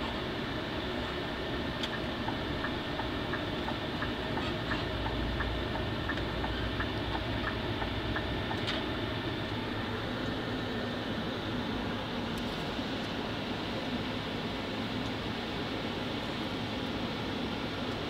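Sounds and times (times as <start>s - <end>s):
diesel bus engine running: 0.0s - 18.0s.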